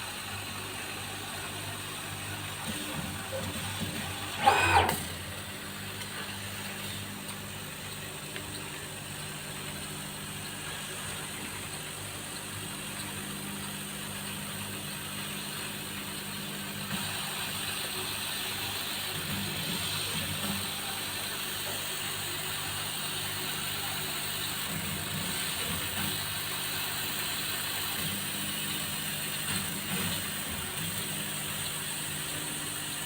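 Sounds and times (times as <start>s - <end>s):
laser cutting machine humming: 0.0s - 33.0s.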